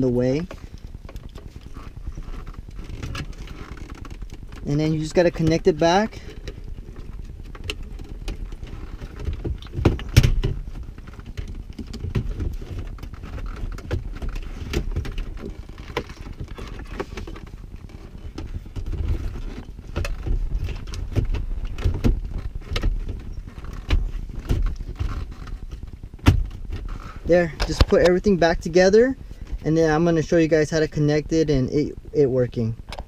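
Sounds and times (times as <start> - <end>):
knocks and rustling: 0.2 - 29.6.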